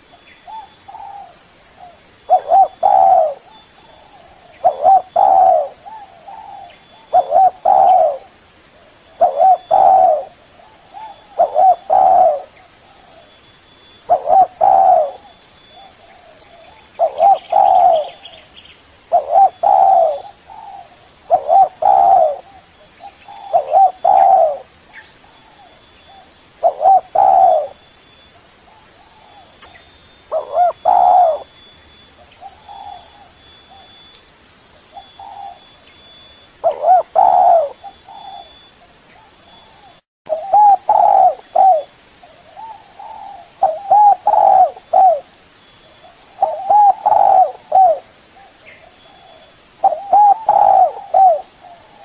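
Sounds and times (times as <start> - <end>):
dove cooing: 0.0 - 13.3, 14.1 - 18.5, 19.1 - 27.8, 28.8 - 31.6, 32.2 - 34.1, 34.9 - 45.3, 46.0 - 52.0.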